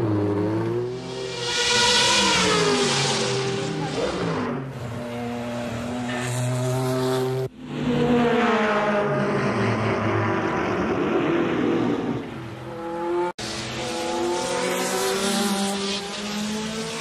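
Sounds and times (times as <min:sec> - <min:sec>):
race car engines revving: 0:00.0 - 0:17.0
race car passing by: 0:00.0 - 0:17.0.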